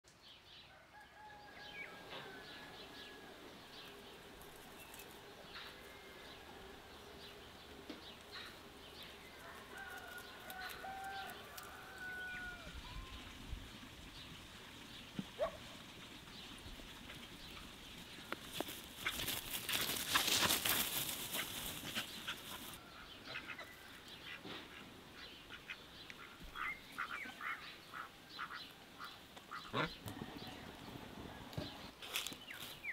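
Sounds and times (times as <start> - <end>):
birds chirping: 1.8 - 13.4, 14.1 - 32.9.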